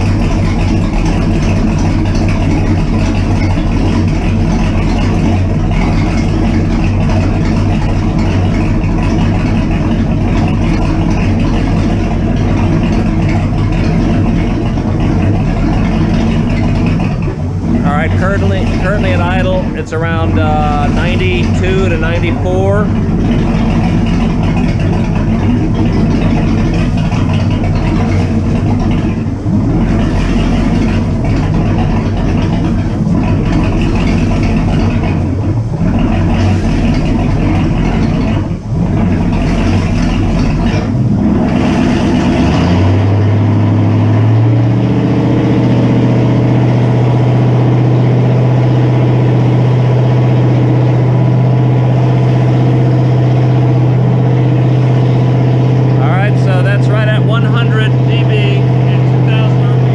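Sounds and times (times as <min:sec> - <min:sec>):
boat engine running loud: 0:00.0 - 0:59.9.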